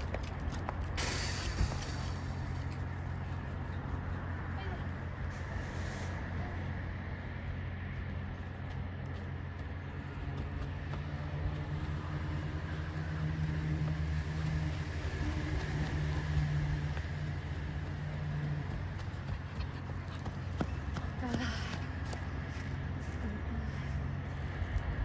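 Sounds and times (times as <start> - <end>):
low mechanical hum with drone: 0.0 - 25.0.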